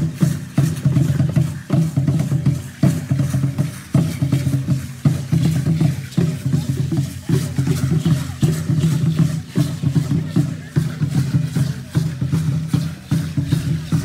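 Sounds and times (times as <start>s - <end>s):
large drum beating: 0.0s - 14.0s.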